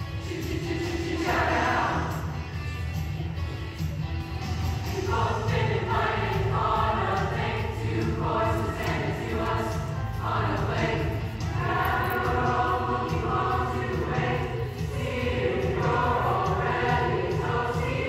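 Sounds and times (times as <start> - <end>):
youth choir singing: 0.1 - 2.4, 4.8 - 18.0.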